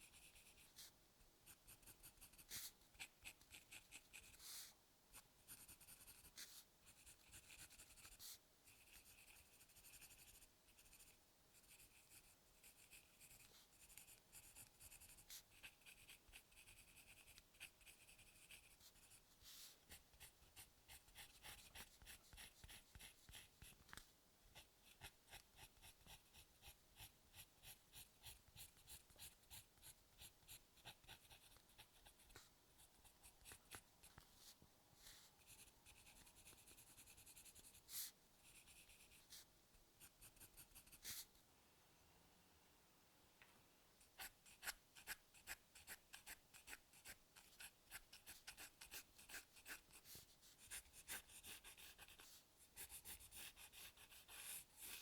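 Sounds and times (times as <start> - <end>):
pencil scratching on paper: 0.0 - 23.8, 24.6 - 41.3, 44.2 - 55.0.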